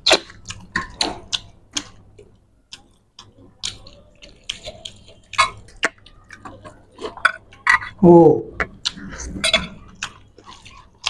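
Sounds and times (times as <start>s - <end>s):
wet chewing and smacking: 0.0s - 8.0s, 8.6s - 11.0s.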